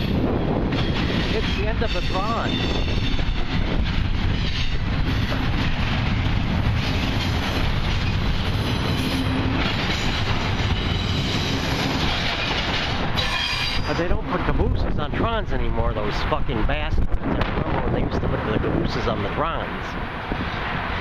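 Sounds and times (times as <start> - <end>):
steel train wheels on rails: 0.0 - 17.9.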